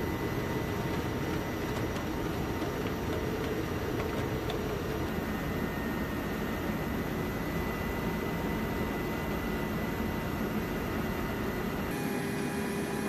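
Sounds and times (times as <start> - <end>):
aircraft engines and rotors: 0.0 - 13.0
thin steady whine: 0.0 - 13.0.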